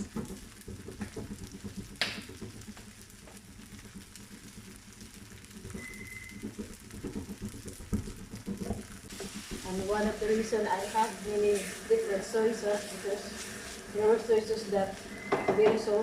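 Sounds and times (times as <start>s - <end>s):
rice frying in a pan: 0.0s - 16.0s.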